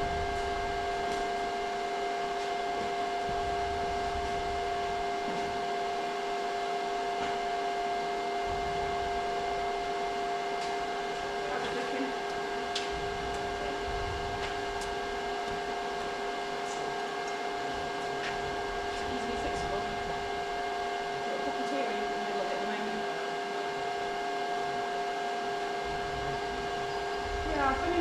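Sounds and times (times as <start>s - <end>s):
machine whine and hum: 0.0s - 28.0s.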